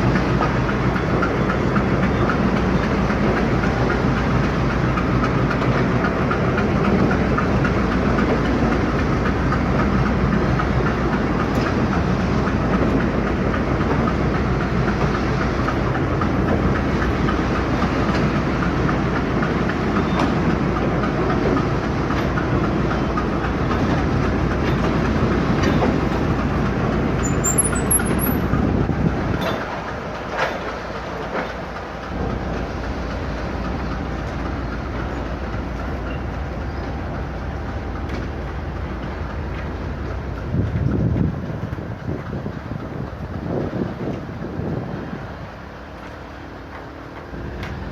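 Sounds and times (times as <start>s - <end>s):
train running on rails: 0.0s - 47.9s.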